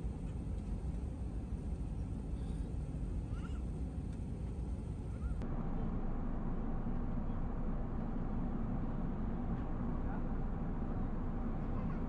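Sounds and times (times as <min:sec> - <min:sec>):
low engine hum: 0:00.0 - 0:12.0
rush of airflow in aircraft cabin: 0:00.0 - 0:12.0.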